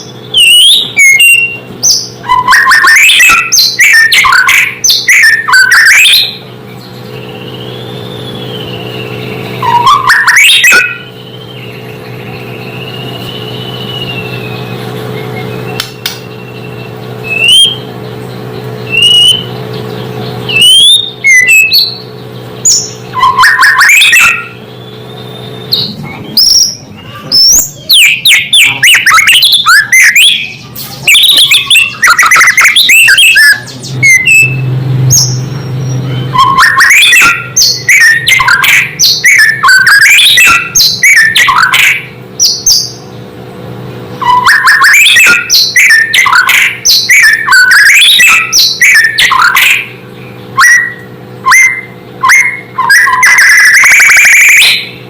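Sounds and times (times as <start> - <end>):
bird singing: 0.0 - 43.3, 44.1 - 55.0.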